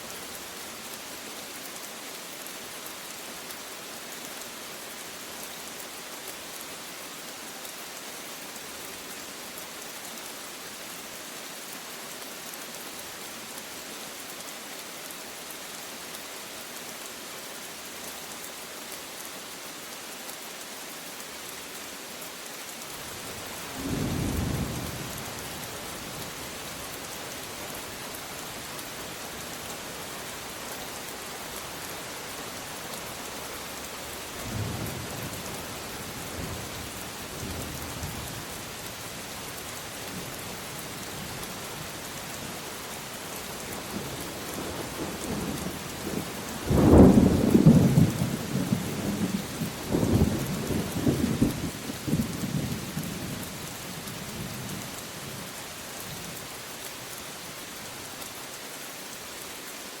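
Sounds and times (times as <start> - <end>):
steady rain: 0.0 - 60.0.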